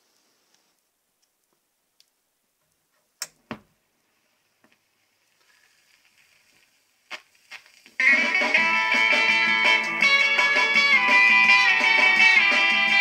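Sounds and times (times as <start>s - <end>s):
low hiss: 0.0s - 10.8s.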